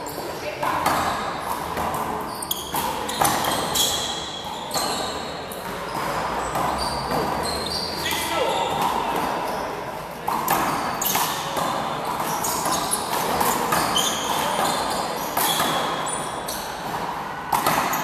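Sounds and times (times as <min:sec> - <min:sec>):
sneakers squeaking on floor: 0:00.0 - 0:18.0
handball slapping: 0:00.6 - 0:09.5, 0:10.2 - 0:18.0.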